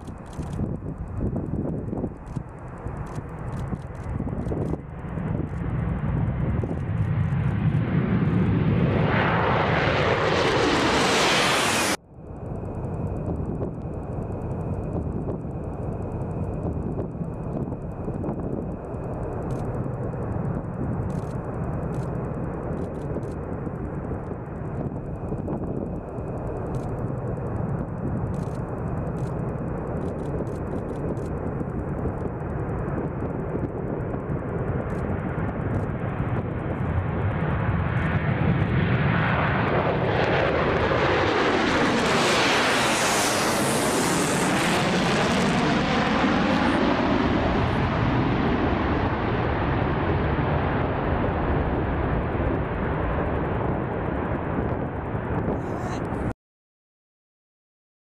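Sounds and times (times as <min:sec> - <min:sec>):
jet bomber afterburner roar: 0:00.0 - 0:56.3.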